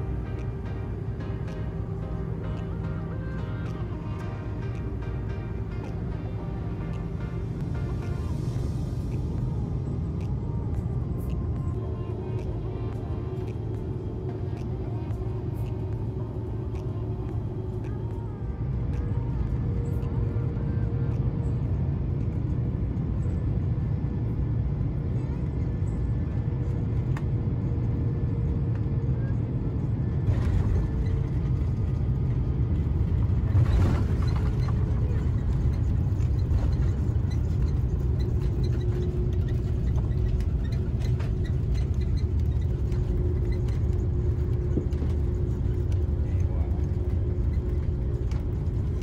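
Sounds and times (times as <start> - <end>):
vehicle cabin rumble: 0.0 - 49.0.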